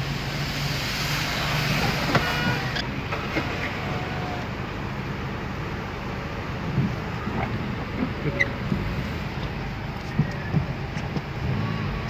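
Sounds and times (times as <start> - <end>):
car engine humming: 0.0 - 12.0
rain hissing on a car: 0.0 - 12.0.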